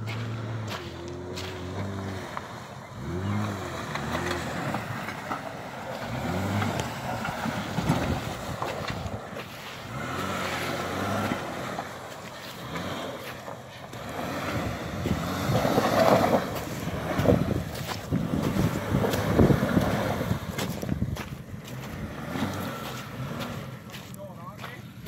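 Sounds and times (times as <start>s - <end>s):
pickup engine revving: 0.0s - 25.0s
tyres churning through mud: 0.0s - 25.0s.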